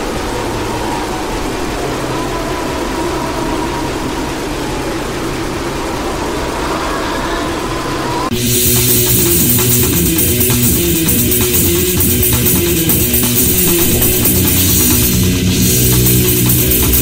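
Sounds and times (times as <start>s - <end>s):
metal song drone passage: 0.0s - 17.0s.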